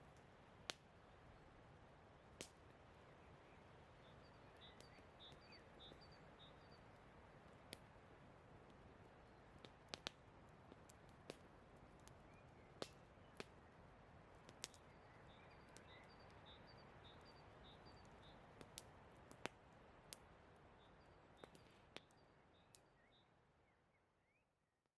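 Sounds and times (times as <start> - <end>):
campfire crackling: 0.0 - 22.9.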